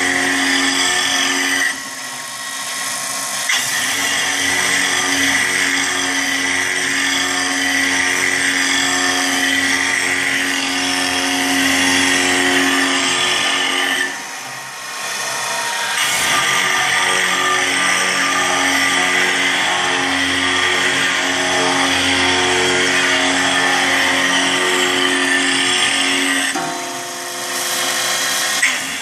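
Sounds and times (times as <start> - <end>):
milling machine spindle whine: 0.0 - 29.0.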